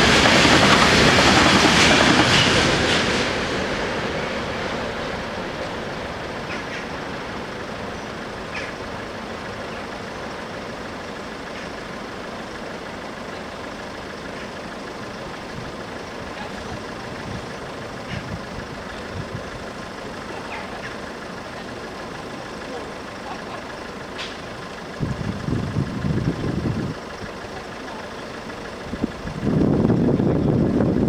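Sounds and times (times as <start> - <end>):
road vehicles rumbling: 0.0 - 31.0
train rail noise: 0.0 - 31.0.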